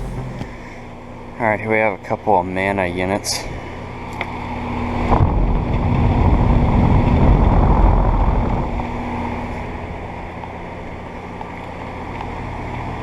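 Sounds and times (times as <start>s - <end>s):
air conditioner fan and hum: 0.0s - 13.0s.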